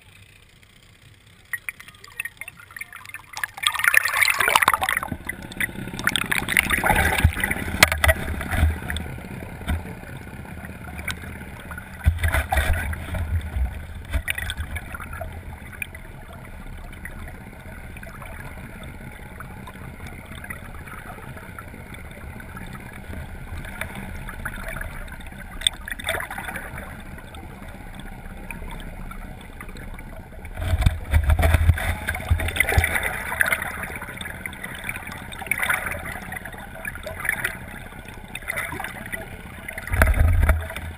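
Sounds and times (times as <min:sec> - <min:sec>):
underwater water gurgling: 0:00.0 - 0:40.9.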